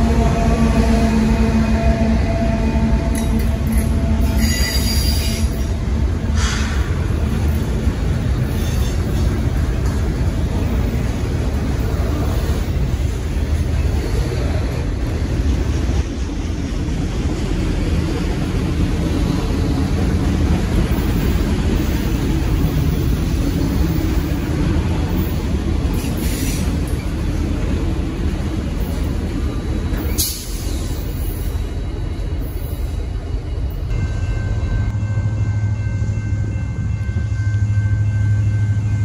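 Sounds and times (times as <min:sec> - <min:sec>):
steel wheels on rails: 0:00.0 - 0:39.0.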